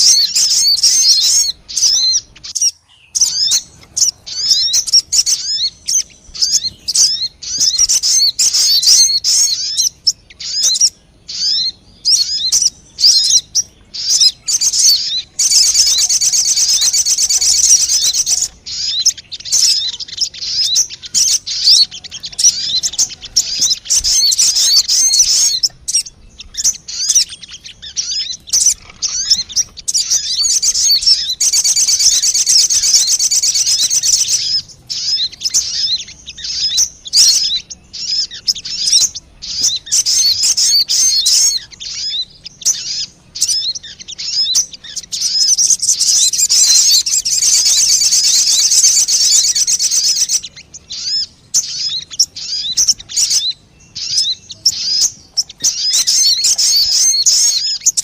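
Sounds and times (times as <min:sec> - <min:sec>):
bird chirps and twitters: 0:00.0 - 0:58.0.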